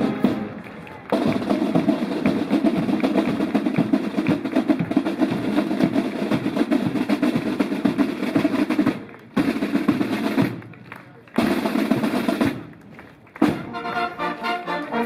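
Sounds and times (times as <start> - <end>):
side drums playing rolls: 0.0 - 12.8, 13.4 - 13.9.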